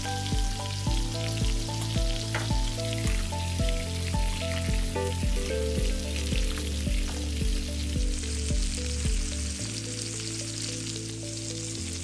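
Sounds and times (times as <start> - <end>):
background music: 0.0 - 12.0
fish sizzling in a pan: 0.0 - 12.0.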